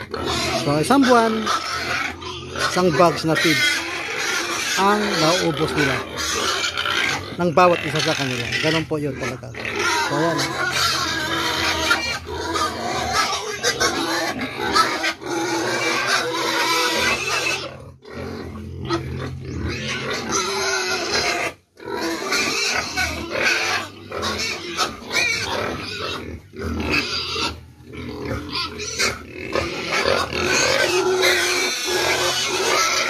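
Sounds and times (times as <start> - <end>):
pigs squealing and grunting: 0.0 - 33.0.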